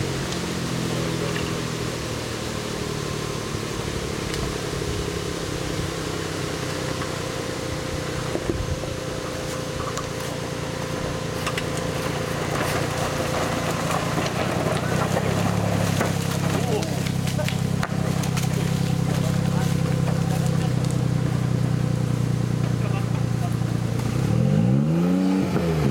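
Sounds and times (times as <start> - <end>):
engine running at low revs: 0.0 - 25.9.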